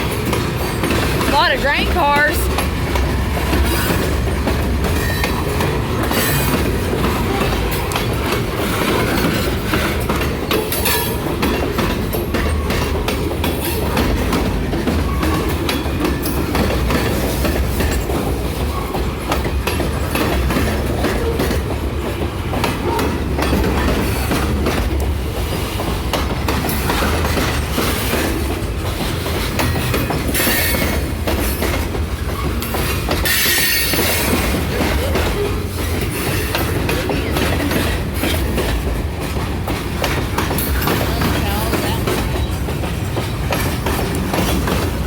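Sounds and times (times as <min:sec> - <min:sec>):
freight train rolling past: 0:00.0 - 0:45.0
wheels clacking over rail joints: 0:00.0 - 0:45.0.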